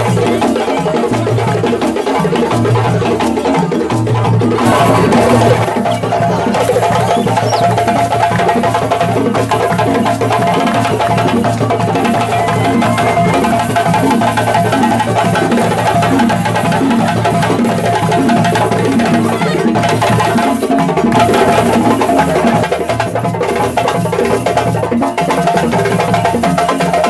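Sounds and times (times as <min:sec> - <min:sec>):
stick-played bass drums: 0:00.0 - 0:23.0
hand-played djembes: 0:00.0 - 0:27.0.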